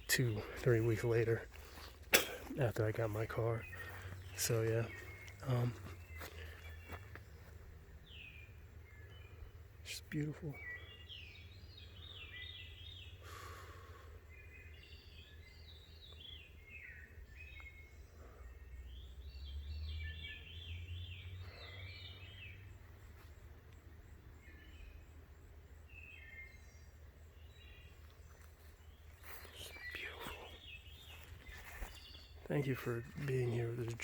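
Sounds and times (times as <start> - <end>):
songbirds warbling: 0.0 - 34.0.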